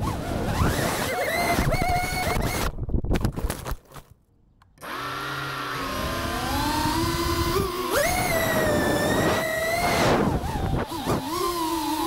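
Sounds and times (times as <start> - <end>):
drone motors whining: 0.1 - 2.7, 4.8 - 12.0.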